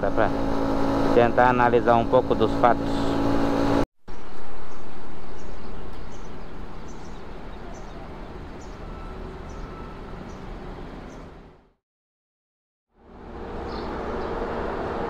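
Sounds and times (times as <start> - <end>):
vehicle noise: 0.0 - 11.8, 13.0 - 15.0.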